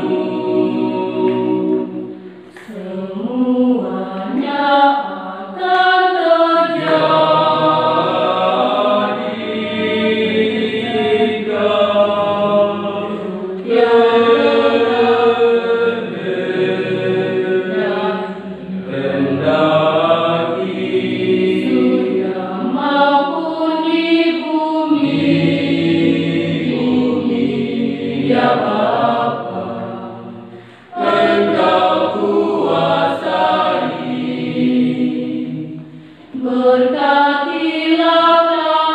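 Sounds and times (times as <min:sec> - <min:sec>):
choir singing unaccompanied: 0:00.0 - 0:38.9.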